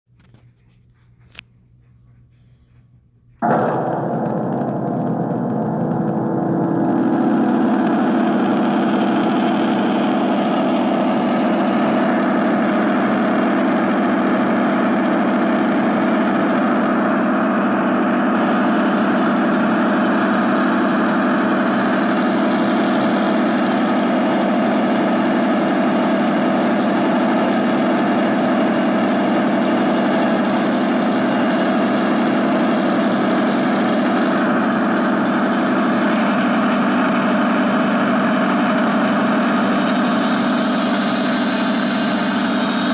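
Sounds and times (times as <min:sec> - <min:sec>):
motor humming steadily: 0:03.4 - 0:42.9.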